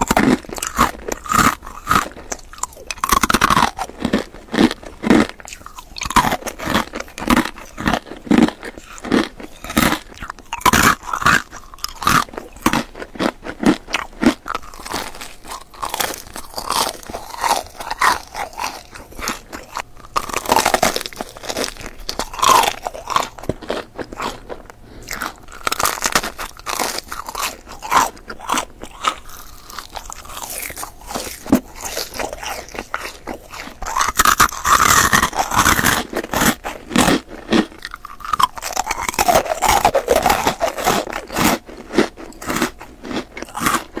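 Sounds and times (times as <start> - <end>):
candy crunching: 0.0 - 44.0
wet chewing: 0.0 - 44.0.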